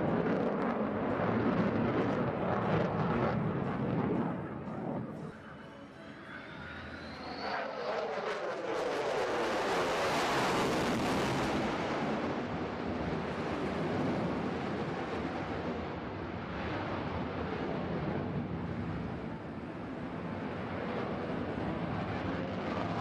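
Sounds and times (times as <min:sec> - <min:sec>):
jet engine whine: 0:00.0 - 0:23.0.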